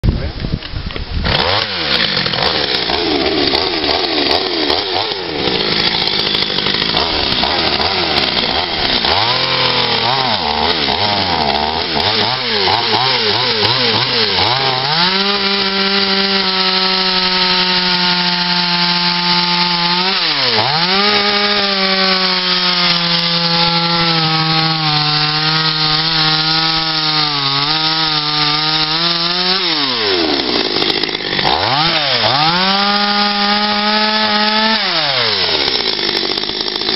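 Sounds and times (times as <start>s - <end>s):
chainsaw cutting wood: 0.8s - 36.9s.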